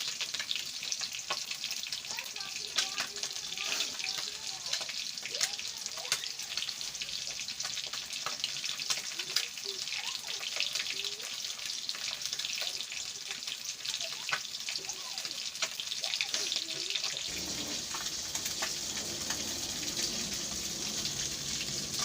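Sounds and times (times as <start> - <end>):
food frying sizzle: 0.0 - 22.0.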